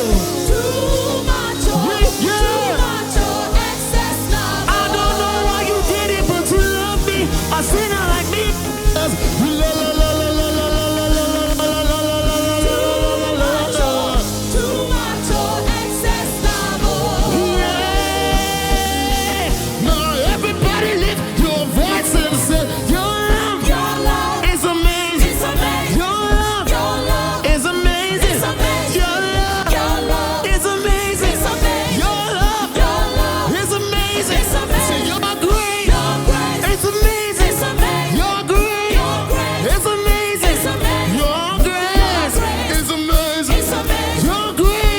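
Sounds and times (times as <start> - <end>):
gospel band music with singing: 0.0 - 44.9
steady drum beat: 0.0 - 44.9.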